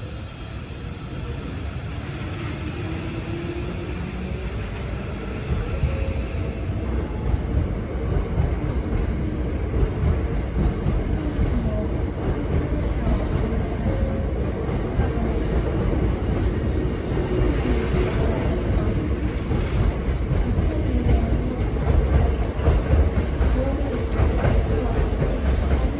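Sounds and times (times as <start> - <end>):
electric train rolling past: 0.0 - 25.9.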